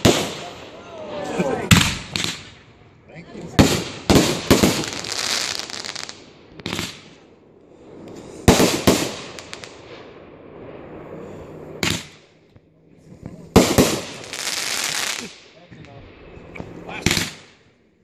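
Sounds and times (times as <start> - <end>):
fireworks bursting: 0.0 - 17.8
fireworks crackling: 0.0 - 17.9.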